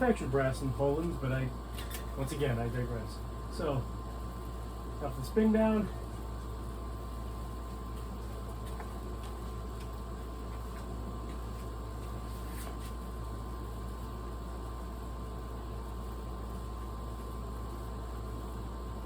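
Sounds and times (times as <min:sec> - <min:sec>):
ceiling fan motor hum: 0:00.0 - 0:19.0.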